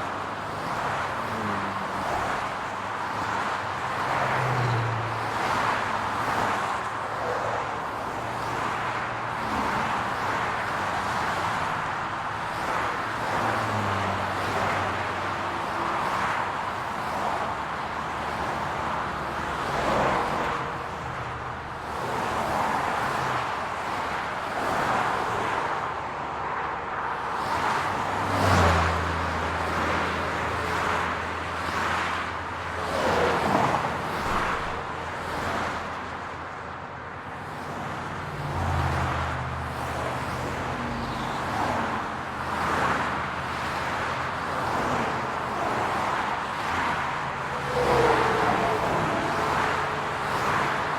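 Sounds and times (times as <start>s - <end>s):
cars passing: 0.0s - 50.9s
tyre and road noise: 0.0s - 50.9s.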